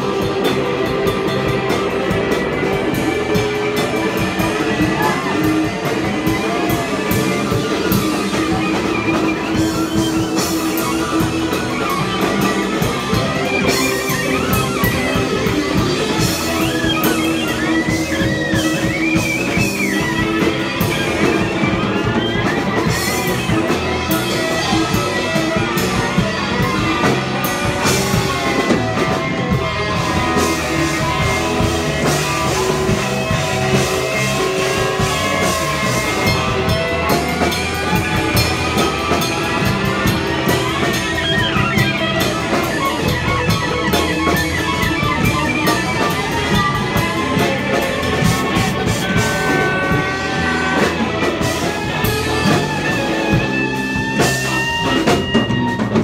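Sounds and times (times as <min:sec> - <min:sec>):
drum kit beat: 0:00.0 - 0:56.0
electric guitar: 0:00.0 - 0:56.0.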